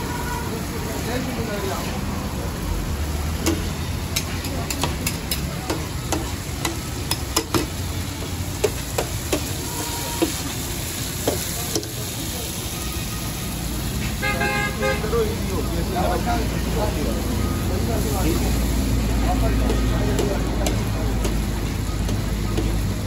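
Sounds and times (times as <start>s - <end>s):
meat sizzling on a griddle: 0.0s - 23.0s.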